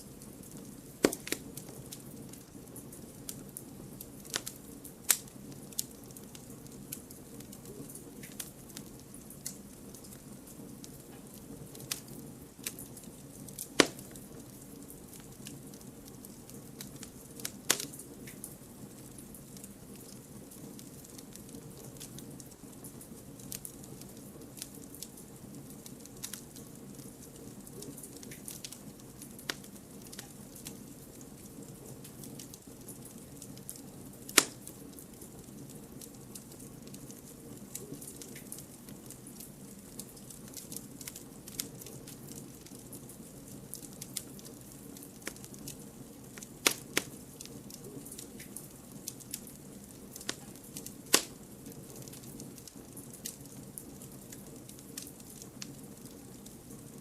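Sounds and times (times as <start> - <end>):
campfire flame rushing: 0.0 - 57.0
logs crackling and popping: 0.0 - 57.0.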